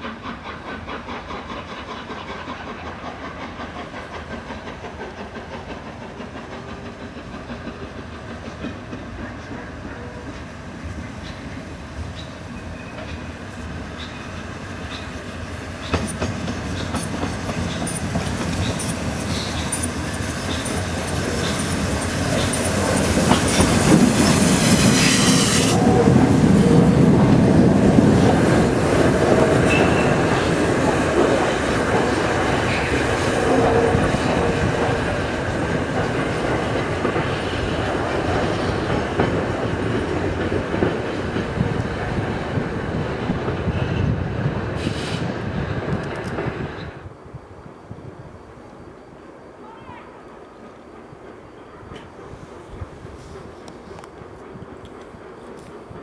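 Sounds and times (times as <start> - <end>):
steam locomotive wheels clattering: 0.0 - 47.0, 50.3 - 56.0
high steam hiss: 0.0 - 56.0.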